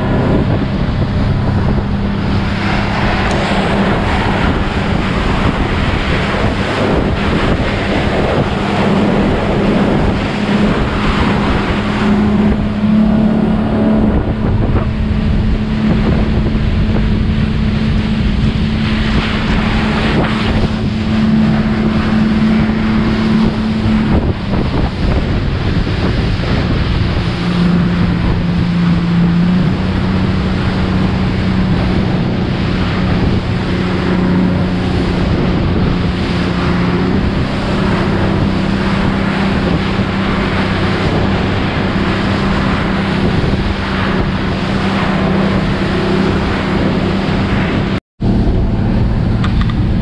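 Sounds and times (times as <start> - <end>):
motorboat engine drone: 0.0 - 50.0
water rushing past hull: 0.0 - 50.0
wind buffeting microphone: 0.0 - 50.0.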